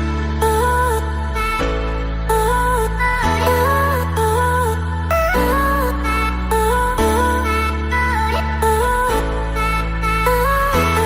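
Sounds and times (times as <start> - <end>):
slow gliding melody: 0.0 - 11.0
sustained bass notes: 0.0 - 11.0.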